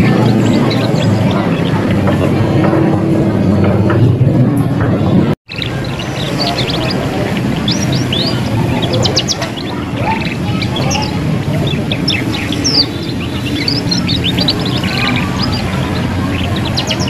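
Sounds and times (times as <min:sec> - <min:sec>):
canary twittering: 0:00.0 - 0:02.8, 0:05.5 - 0:17.0.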